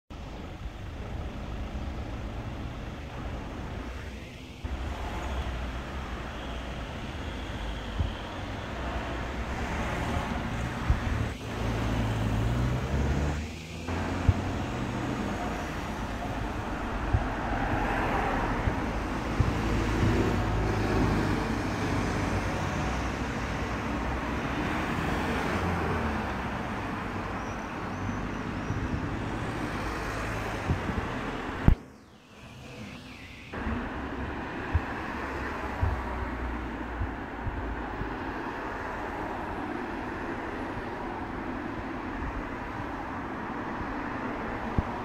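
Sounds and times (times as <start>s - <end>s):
distant road traffic: 0.1s - 45.0s
wind rumbling on microphone: 2.6s - 45.0s.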